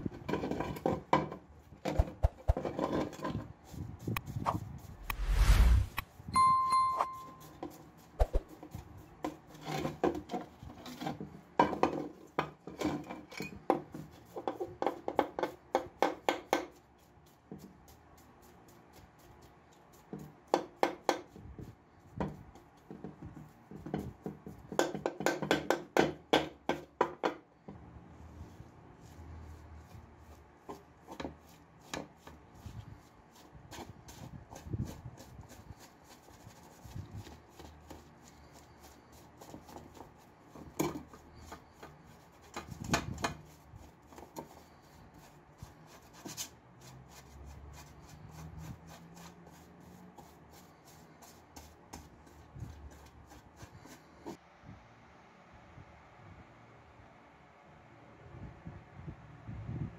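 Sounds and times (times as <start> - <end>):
paintbrush scrubbing metal: 0.0 - 25.5, 28.1 - 54.4.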